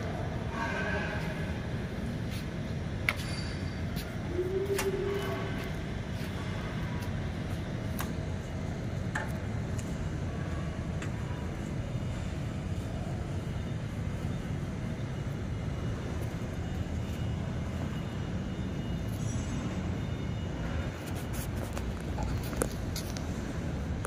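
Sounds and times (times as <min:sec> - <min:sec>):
low workshop rumble: 0:00.0 - 0:24.0.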